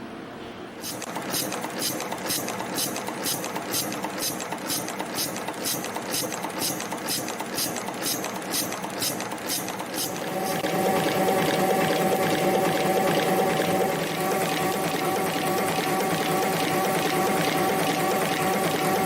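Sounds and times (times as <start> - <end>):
stamping machine strokes: 0.8 - 19.0
steady machine noise: 0.8 - 19.0.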